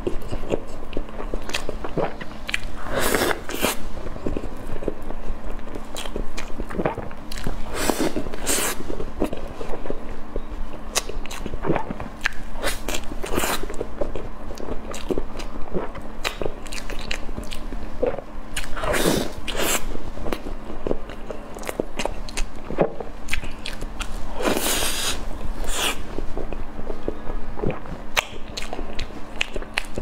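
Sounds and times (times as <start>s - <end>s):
person chewing meat: 0.0s - 30.0s.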